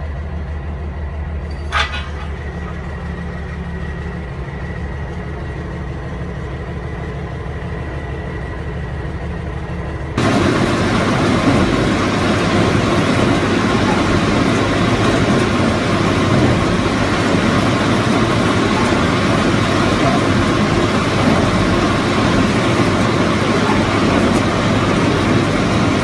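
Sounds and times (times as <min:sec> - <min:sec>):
truck engine drone: 0:00.0 - 0:26.0.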